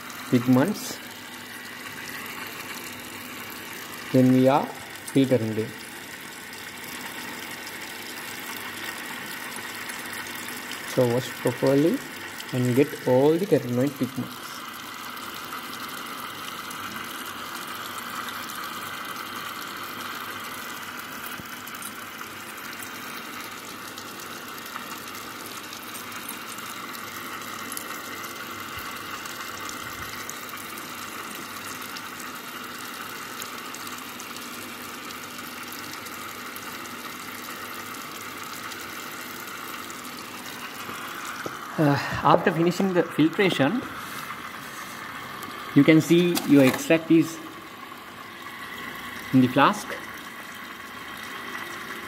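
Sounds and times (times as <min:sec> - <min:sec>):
tap water running into a sink: 0:00.0 - 0:52.0.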